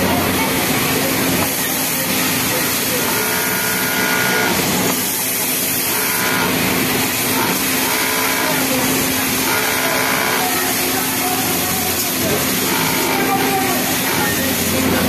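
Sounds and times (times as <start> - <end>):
sewing machine stitching: 0.0 - 15.0
steady machine hum: 0.0 - 15.0.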